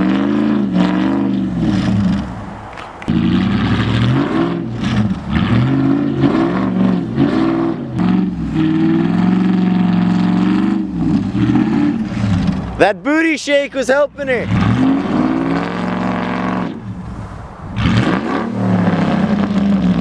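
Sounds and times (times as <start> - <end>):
truck engine revving hard: 0.0 - 13.0, 14.2 - 20.0.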